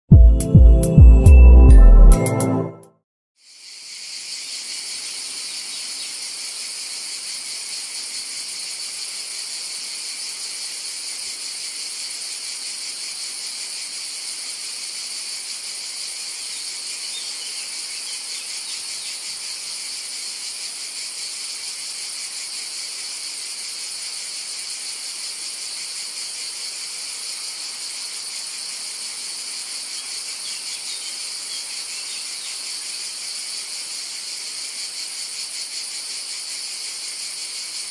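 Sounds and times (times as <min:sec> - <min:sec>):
insects buzzing: 0:03.4 - 0:37.9.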